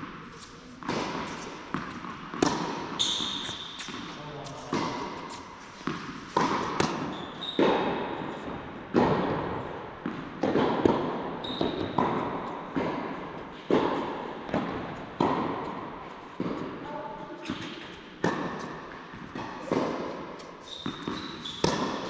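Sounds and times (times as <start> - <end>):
racket striking ball: 0.0 - 16.8, 17.4 - 22.0
ball bouncing: 0.4 - 15.8, 17.4 - 22.0.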